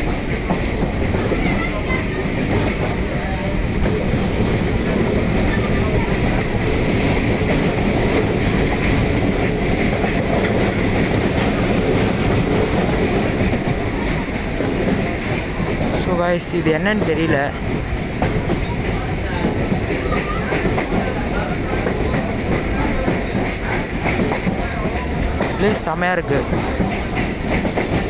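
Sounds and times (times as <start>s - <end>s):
train wheels on rails: 0.0s - 28.0s.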